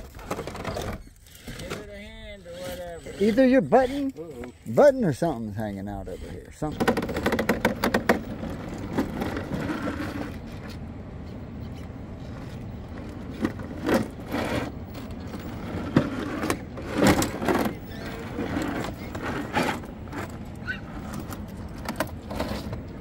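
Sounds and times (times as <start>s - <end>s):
toy truck motor and gears whining: 0.0s - 23.0s
tyres scraping on stone: 0.0s - 23.0s.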